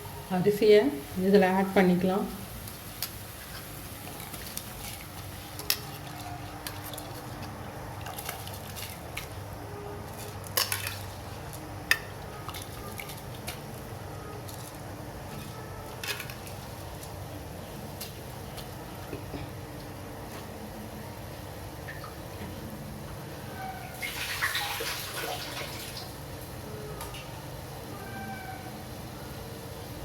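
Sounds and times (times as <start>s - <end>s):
steady low background noise: 0.0s - 30.0s.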